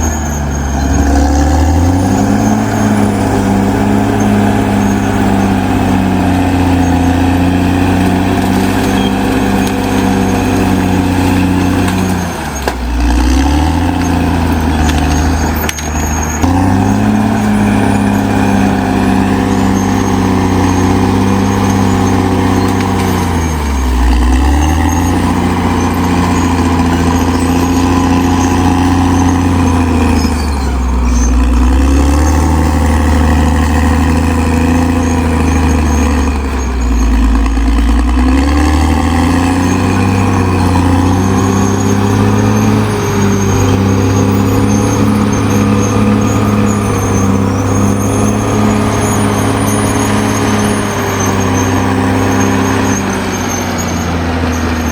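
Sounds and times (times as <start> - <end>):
bulldozer diesel engine lugging: 0.0 - 54.9.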